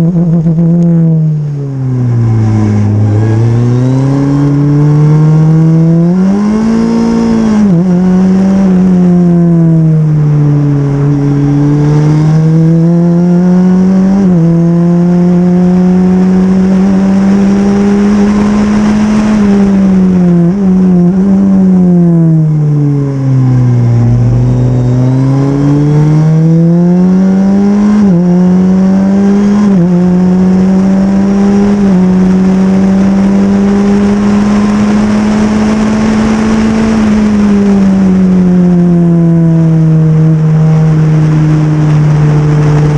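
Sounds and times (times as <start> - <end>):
race car engine revving: 0.0 - 42.9.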